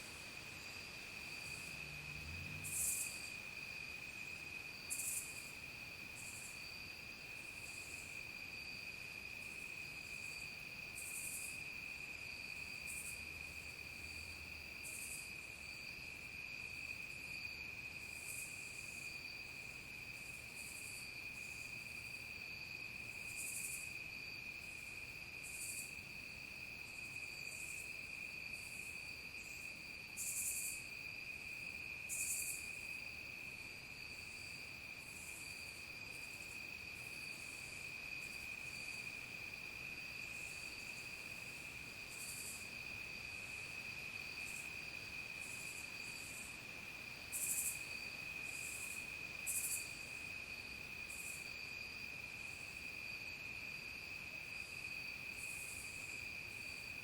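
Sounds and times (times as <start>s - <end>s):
crickets trilling: 0.0s - 57.0s
high buzzy insect calls: 0.0s - 57.0s.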